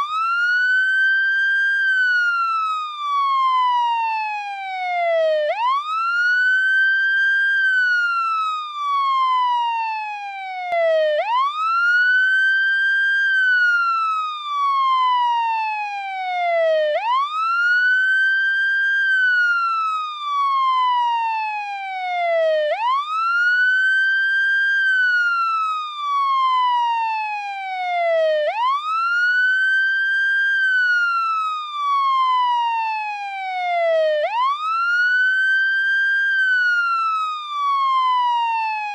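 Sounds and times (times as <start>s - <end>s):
police siren wailing: 0.0s - 38.9s.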